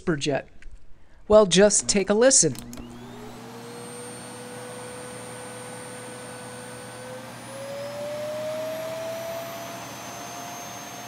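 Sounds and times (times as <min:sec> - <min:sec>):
vacuum cleaner whine: 0:01.6 - 0:11.0.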